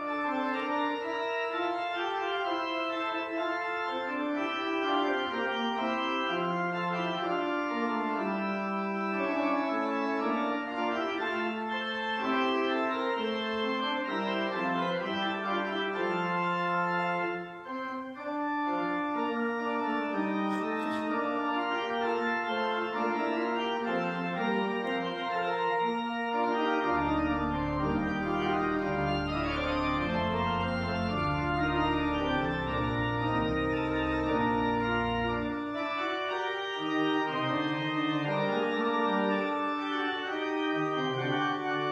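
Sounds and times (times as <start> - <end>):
organ chords: 0.0 - 41.9.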